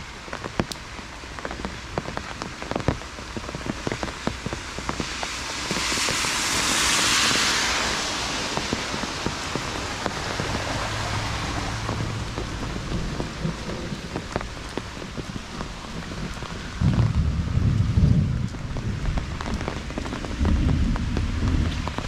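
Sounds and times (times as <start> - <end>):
heavy rain on hard ground: 0.0 - 22.0.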